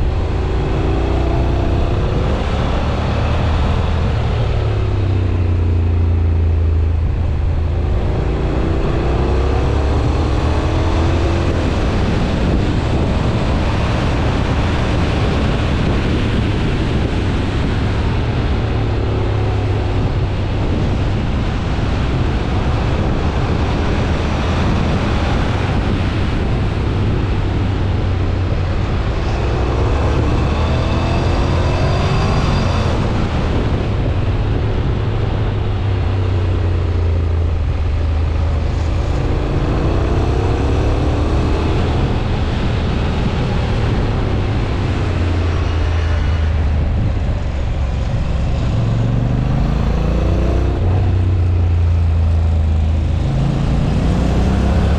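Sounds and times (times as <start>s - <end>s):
motorcycle engine accelerating: 0.0s - 54.9s
wind noise: 0.0s - 54.9s.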